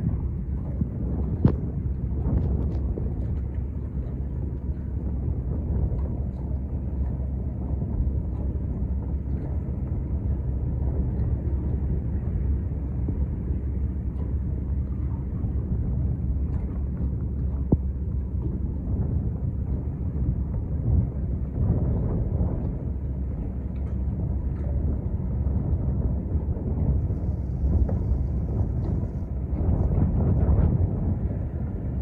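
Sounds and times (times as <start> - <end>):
boat engine rumble: 0.0 - 32.0.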